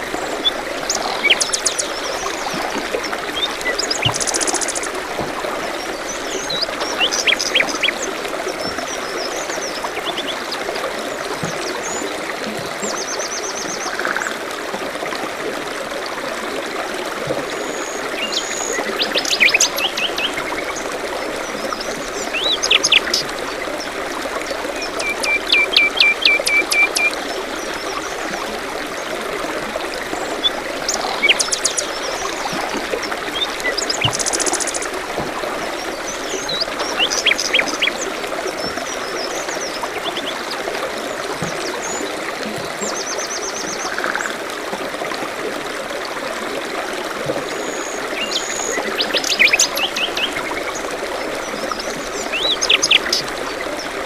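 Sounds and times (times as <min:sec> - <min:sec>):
babbling stream: 0:00.0 - 0:54.0.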